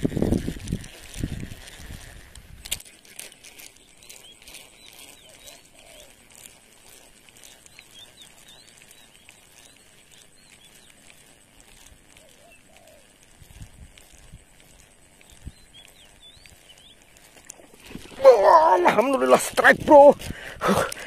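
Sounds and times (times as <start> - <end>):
small birds chirping: 0.6 - 21.0.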